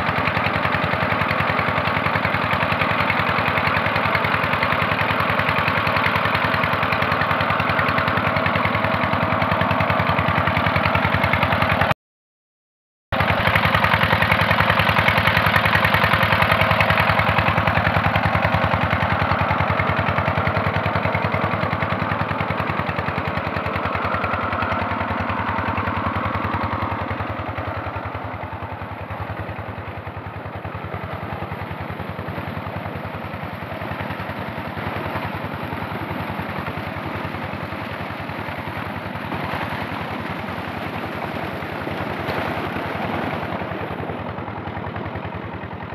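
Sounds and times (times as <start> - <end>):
diesel pump engine running: 0.0 - 12.0, 13.1 - 45.9.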